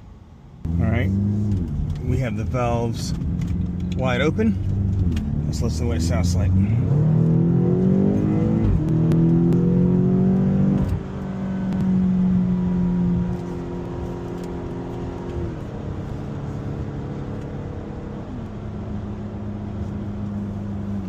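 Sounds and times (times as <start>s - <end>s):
car engine accelerating hard: 0.6s - 21.0s.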